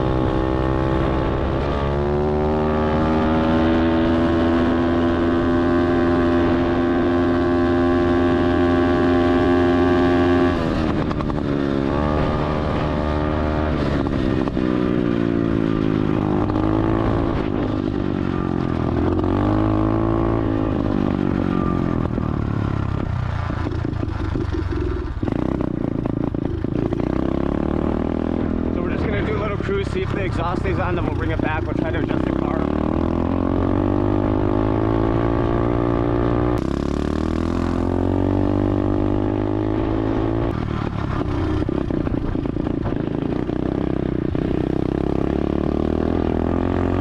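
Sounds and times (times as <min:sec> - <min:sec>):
dirt bike engine revving: 0:00.0 - 0:22.3, 0:23.0 - 0:47.0.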